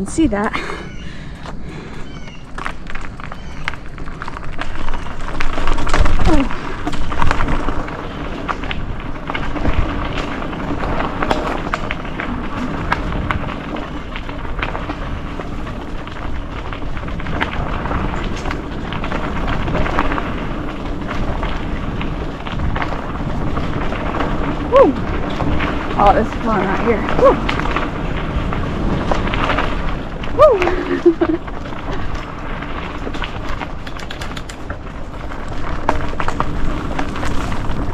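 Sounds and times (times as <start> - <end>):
bike rattling over roots: 0.0 - 37.9
bike tyres crunching on dirt: 0.0 - 37.9
wind rumbling on microphone: 0.0 - 37.9.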